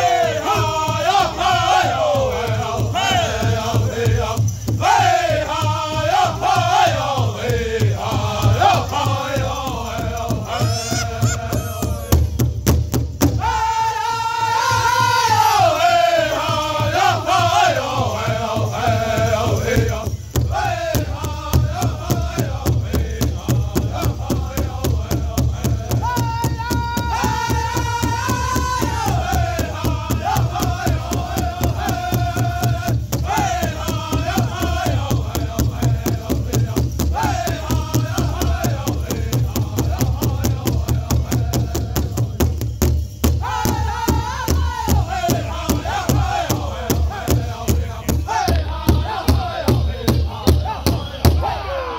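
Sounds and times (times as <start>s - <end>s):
large hide drum beating: 0.0s - 13.7s, 16.4s - 51.6s
drum group singing: 0.0s - 51.9s.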